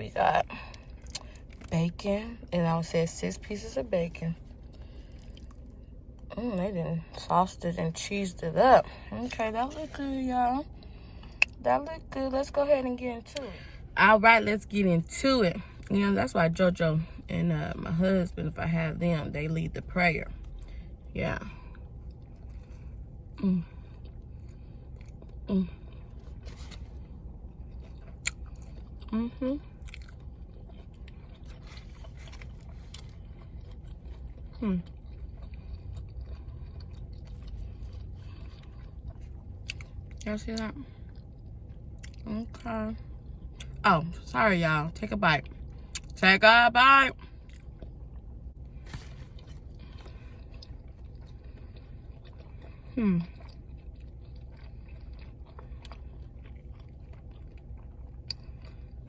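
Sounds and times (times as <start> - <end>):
faint low hum: 0.0 - 59.0
faint chewing: 0.4 - 12.2, 15.0 - 43.8, 47.1 - 59.0.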